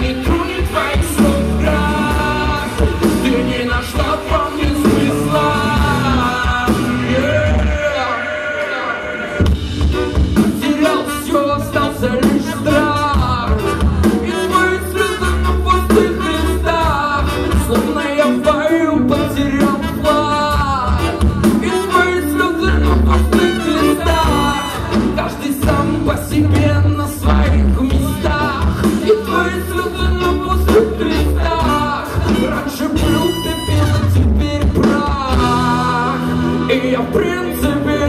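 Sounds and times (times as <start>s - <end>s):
live ska reggae rock band: 0.0s - 38.0s.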